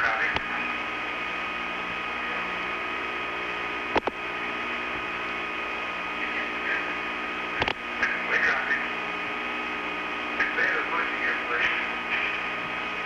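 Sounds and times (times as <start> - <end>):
steady hiss and hum: 0.0 - 13.0.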